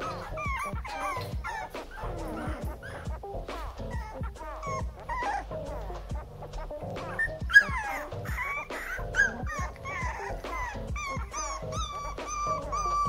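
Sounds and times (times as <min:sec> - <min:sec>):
puppies whimpering and yelping: 0:00.0 - 0:13.0.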